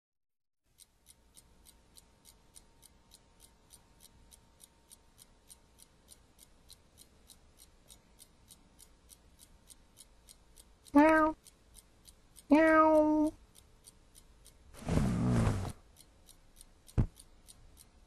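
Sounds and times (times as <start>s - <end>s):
faint clock ticking: 0.6s - 18.0s.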